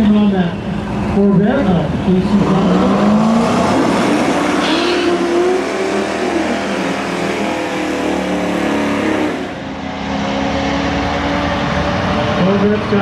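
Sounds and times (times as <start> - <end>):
car engine accelerating hard: 0.1 - 13.0.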